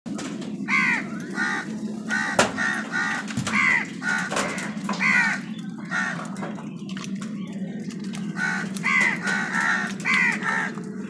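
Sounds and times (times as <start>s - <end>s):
steady low hum: 0.1s - 11.0s
crows cawing: 0.6s - 6.7s, 8.2s - 11.0s.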